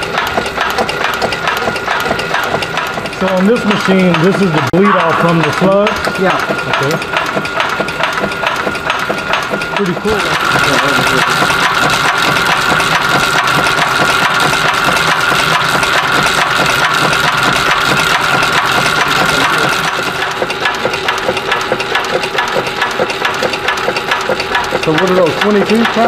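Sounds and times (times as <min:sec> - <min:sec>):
machine whine: 0:00.0 - 0:26.0
press strokes clattering: 0:00.0 - 0:26.0.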